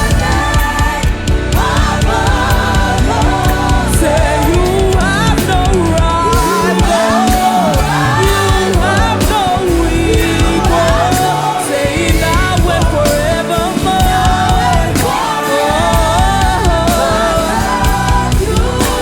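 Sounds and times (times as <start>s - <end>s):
person singing long notes: 0.0s - 19.0s
worship band playing: 0.0s - 19.0s.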